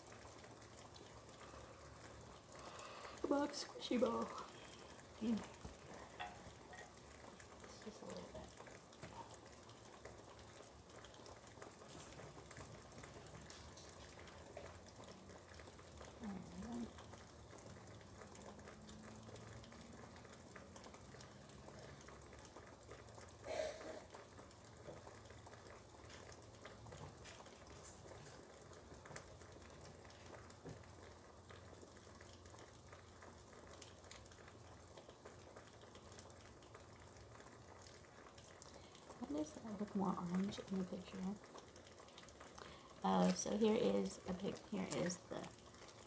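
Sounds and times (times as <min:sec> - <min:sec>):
rain patter: 0:00.0 - 0:46.0.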